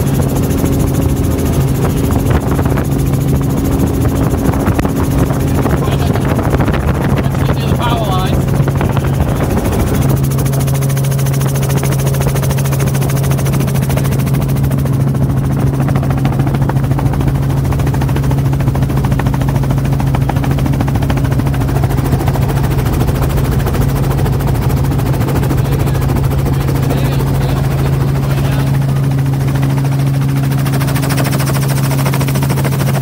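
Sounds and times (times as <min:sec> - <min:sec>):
helicopter cabin drone: 0:00.0 - 0:33.0.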